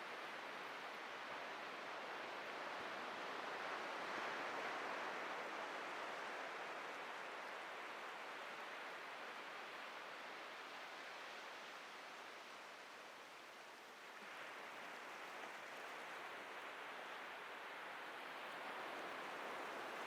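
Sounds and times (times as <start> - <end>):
surf washing ashore: 0.0 - 20.0.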